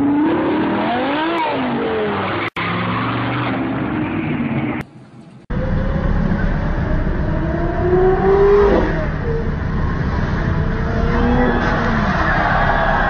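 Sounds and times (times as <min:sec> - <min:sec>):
sports car engines revving: 0:00.0 - 0:04.8, 0:05.5 - 0:13.0.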